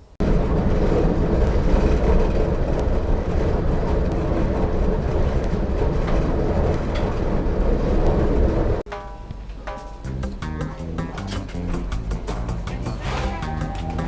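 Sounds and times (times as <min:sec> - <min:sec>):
train running inside carriage: 0:00.0 - 0:09.8, 0:11.0 - 0:14.0.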